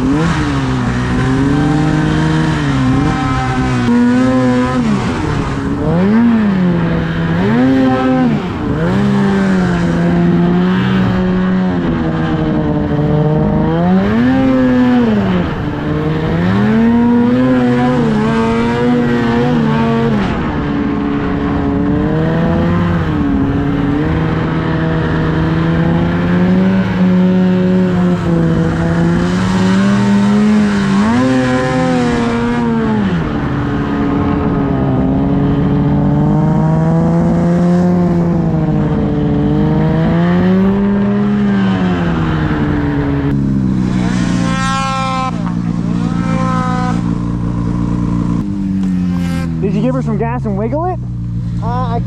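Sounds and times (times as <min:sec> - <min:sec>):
snowmobile engine revving: 0:00.0 - 0:52.0.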